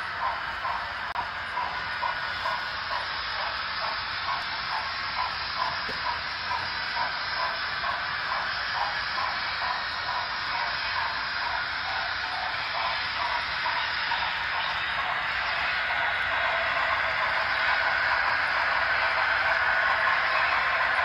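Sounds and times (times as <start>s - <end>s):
model trains running hiss: 0.0s - 21.0s.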